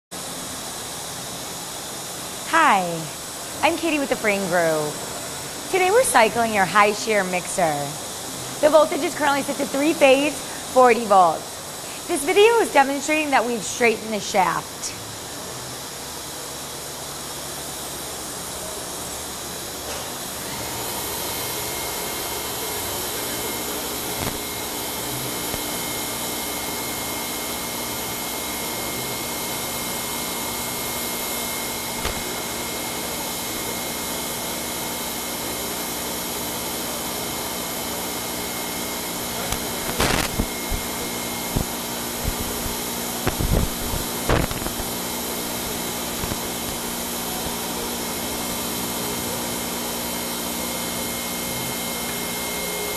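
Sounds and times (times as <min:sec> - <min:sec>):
mixer motor humming and whining: 0:00.2 - 0:52.9.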